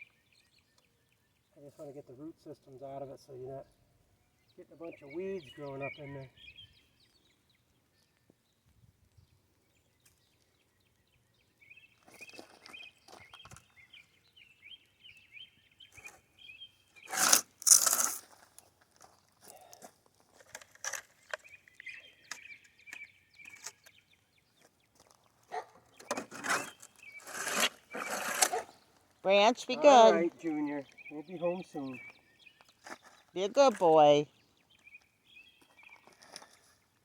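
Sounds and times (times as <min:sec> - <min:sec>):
songbird chirping and trilling: 0:00.0 - 0:17.4, 0:20.9 - 0:37.0.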